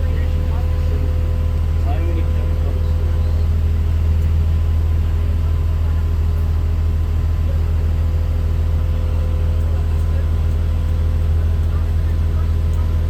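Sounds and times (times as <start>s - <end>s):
diesel bus engine droning: 0.0s - 13.0s.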